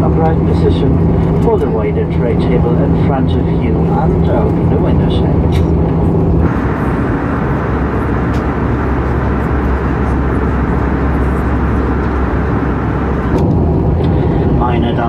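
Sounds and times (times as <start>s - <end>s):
airplane cabin roar: 0.0s - 15.0s.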